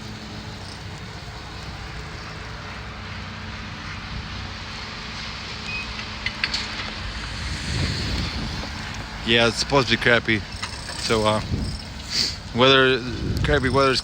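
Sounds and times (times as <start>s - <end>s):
outdoor hiss: 0.0s - 14.0s
vehicle engine humming: 0.0s - 14.0s.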